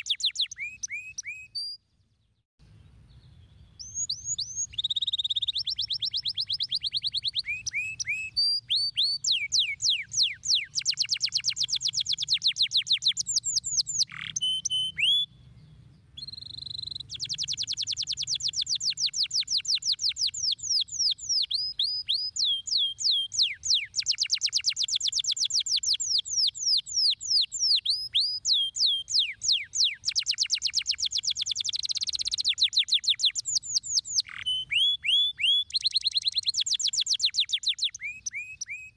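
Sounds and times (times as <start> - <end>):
canary singing trills: 0.0 - 1.8, 2.9 - 38.9.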